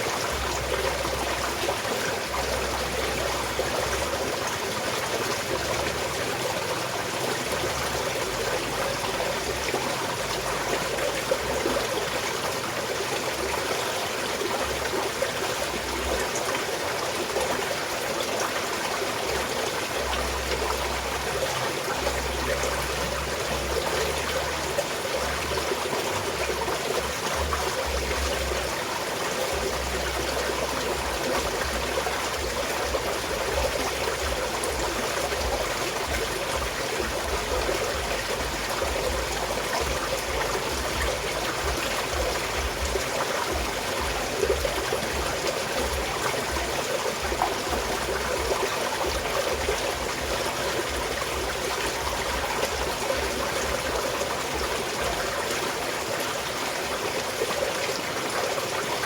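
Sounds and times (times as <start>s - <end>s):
stream water splashing over rocks: 0.0s - 59.0s.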